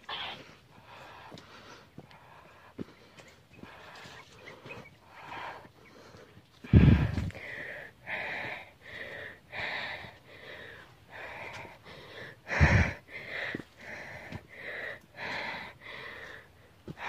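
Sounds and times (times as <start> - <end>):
person panting hard: 0.2 - 17.0.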